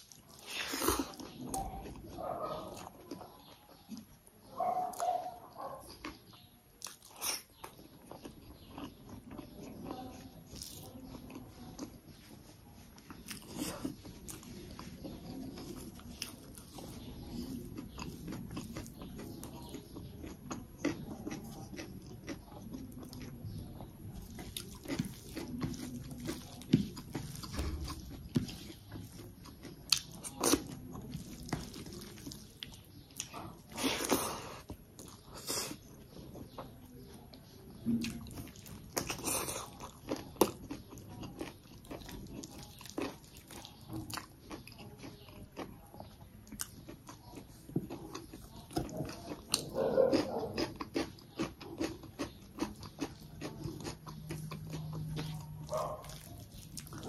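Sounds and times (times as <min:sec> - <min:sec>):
wet chewing sounds: 0:00.0 - 0:57.0.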